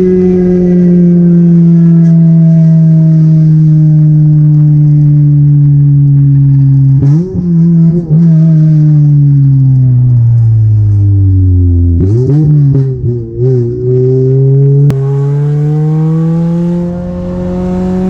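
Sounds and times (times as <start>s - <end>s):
car engine driving: 0.0s - 18.0s.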